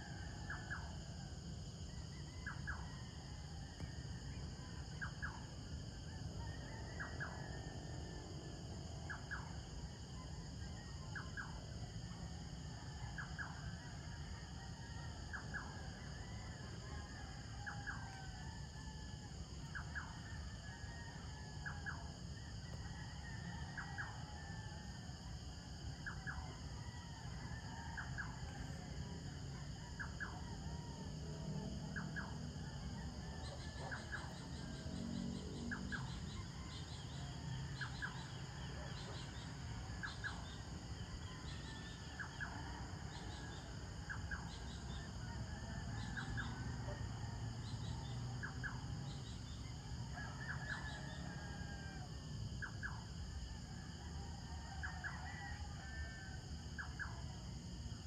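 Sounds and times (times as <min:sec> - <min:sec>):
high insect chorus: 0:00.0 - 0:58.0.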